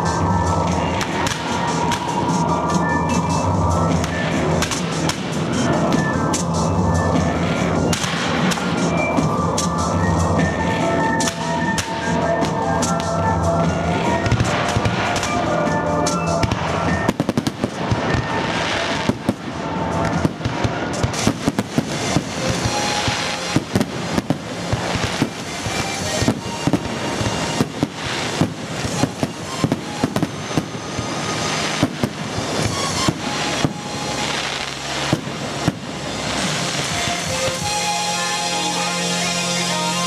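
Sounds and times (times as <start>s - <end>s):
fireworks bursting: 0.0s - 40.0s
music playing: 0.0s - 40.0s.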